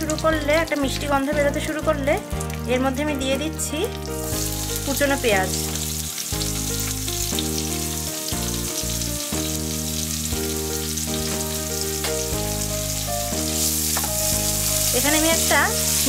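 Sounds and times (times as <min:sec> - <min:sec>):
onions sizzling in oil: 0:00.0 - 0:16.0
soft background music: 0:00.0 - 0:16.0.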